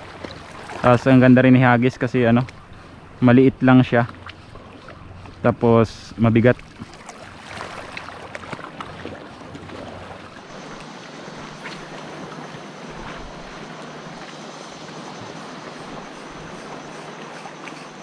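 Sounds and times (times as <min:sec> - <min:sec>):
faint steady hum: 0:00.0 - 0:18.0
water noise: 0:00.0 - 0:18.0
wind: 0:00.0 - 0:18.0.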